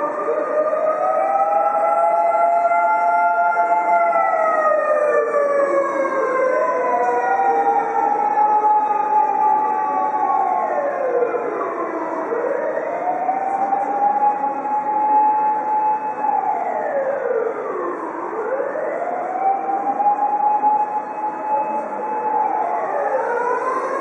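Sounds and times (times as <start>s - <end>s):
fire engine siren wailing: 0.0s - 24.0s.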